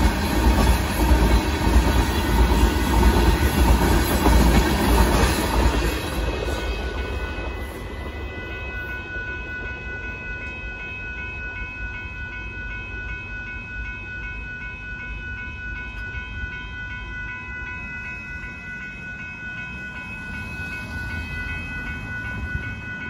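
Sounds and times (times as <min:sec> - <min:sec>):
railroad crossing bell ringing: 0:00.0 - 0:23.0
train rumble: 0:00.0 - 0:23.0.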